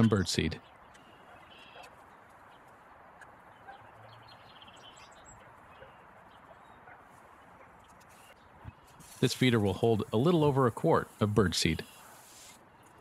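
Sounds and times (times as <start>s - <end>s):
distant birds chirping: 0.0s - 10.6s.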